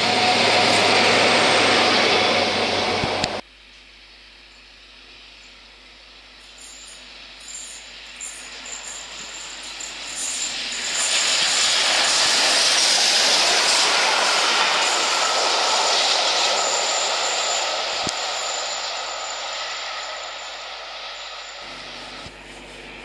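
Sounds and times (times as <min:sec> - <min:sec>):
steam train passing: 0:00.0 - 0:03.4, 0:06.4 - 0:23.0.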